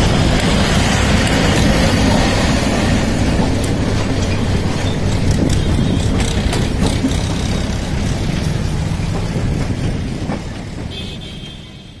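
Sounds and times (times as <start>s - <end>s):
train coaches rumbling on rails: 0.0s - 12.0s.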